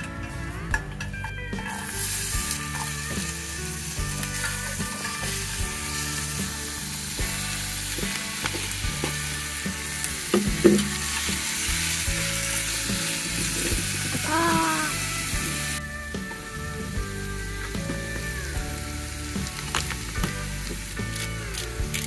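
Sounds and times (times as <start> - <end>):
food sizzling in a pan: 1.6 - 22.0.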